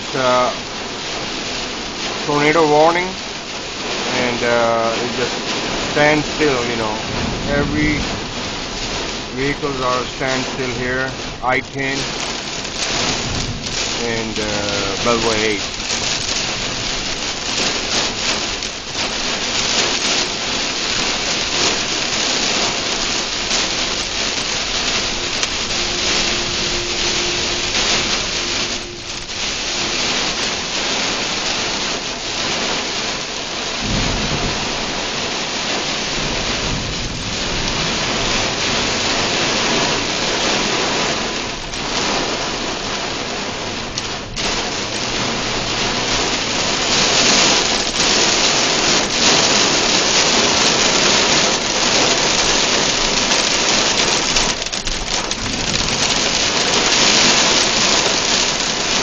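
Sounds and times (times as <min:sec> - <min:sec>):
heavy rain on car roof: 0:00.0 - 0:59.0.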